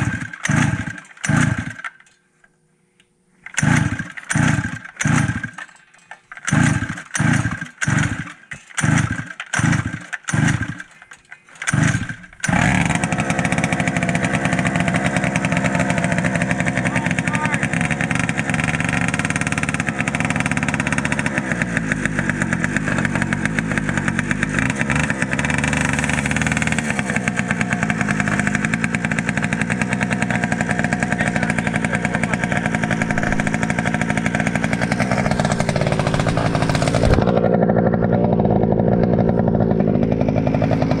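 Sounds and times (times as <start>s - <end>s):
small engine running: 0.0s - 2.0s, 3.5s - 41.0s.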